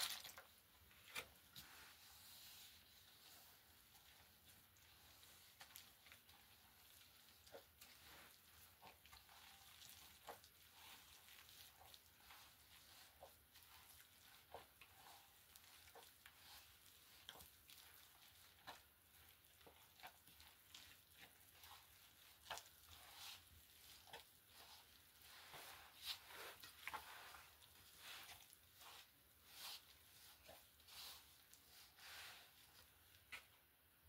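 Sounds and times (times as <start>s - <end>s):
soft clicks and rustles: 0.0s - 33.7s.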